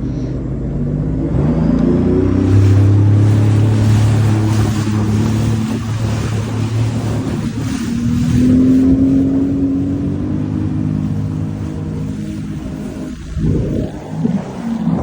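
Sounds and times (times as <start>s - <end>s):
personal watercraft engine revving: 0.0s - 15.0s.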